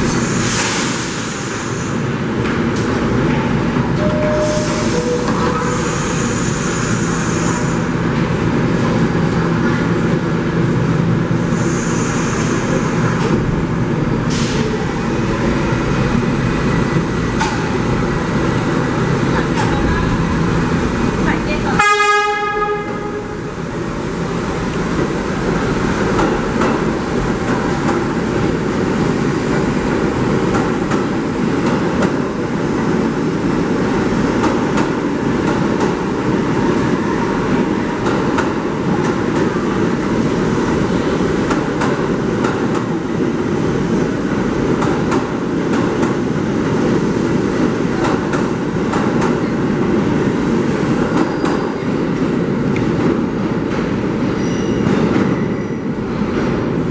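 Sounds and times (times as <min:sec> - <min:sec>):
subway train rumbling past: 0:00.0 - 0:56.9.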